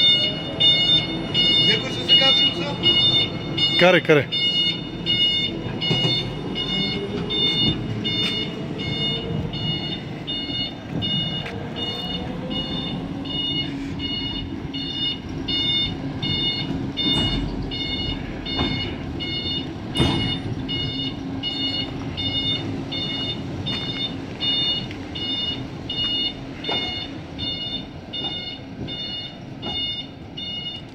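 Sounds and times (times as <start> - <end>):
electronic warning beeps: 0.0 - 30.9
low machinery rumble: 0.0 - 30.9.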